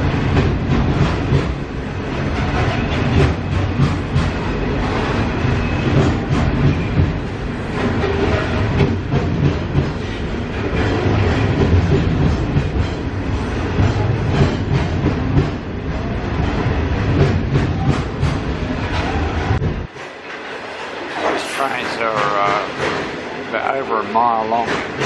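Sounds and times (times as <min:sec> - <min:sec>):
train wagons rumbling: 0:00.0 - 0:25.0.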